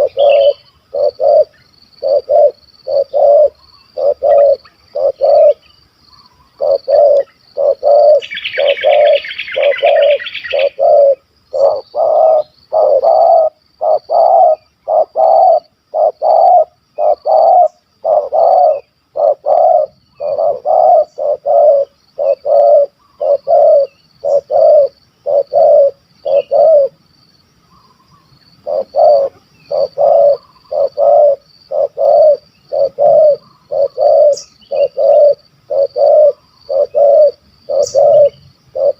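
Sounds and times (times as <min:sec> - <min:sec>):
dove cooing: 0:00.0 - 0:05.7, 0:06.4 - 0:27.0, 0:28.5 - 0:38.9.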